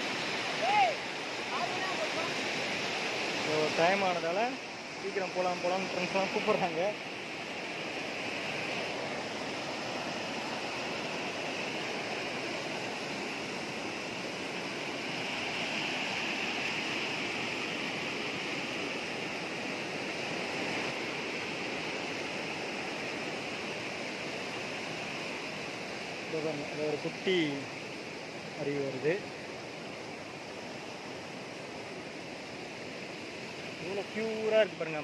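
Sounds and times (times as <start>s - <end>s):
stream rushing over rock: 0.0s - 35.0s.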